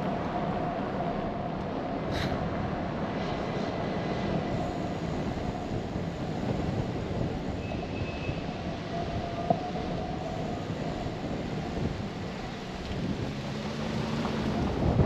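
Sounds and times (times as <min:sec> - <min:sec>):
bicycle road rumble: 0:00.0 - 0:15.0
wind noise: 0:00.0 - 0:15.0.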